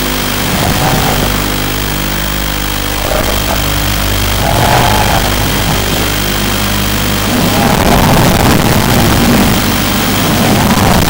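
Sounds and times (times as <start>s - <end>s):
drone motors humming: 0.0s - 11.0s.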